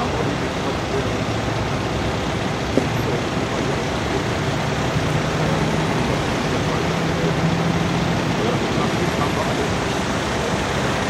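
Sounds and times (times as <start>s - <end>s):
motorway traffic roar: 0.0s - 11.0s.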